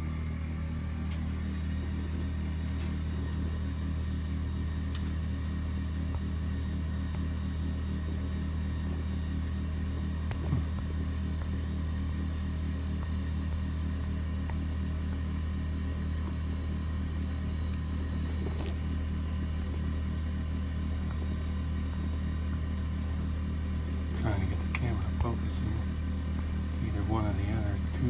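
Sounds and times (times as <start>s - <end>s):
motor droning: 0.0s - 28.0s.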